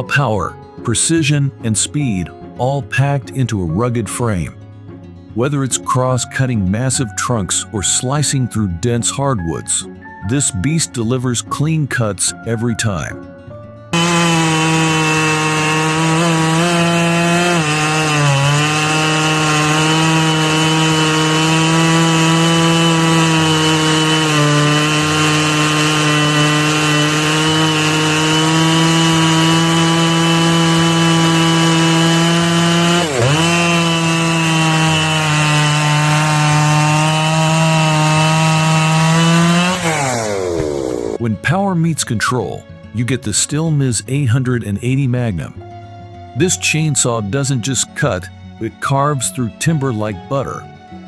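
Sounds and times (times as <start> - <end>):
chainsaw cutting wood: 0.0 - 4.7, 5.4 - 13.2, 13.9 - 45.4, 46.4 - 51.0.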